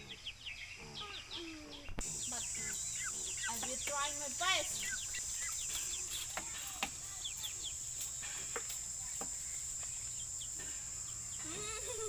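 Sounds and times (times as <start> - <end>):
insect drone: 0.0 - 12.0
short insect chirps: 1.3 - 12.0.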